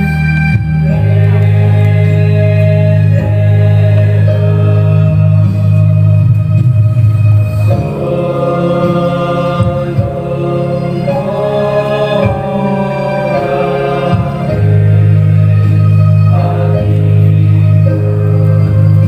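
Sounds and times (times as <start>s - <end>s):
organ chords: 0.0s - 19.0s
voices singing a hymn: 0.8s - 6.7s, 7.5s - 19.0s.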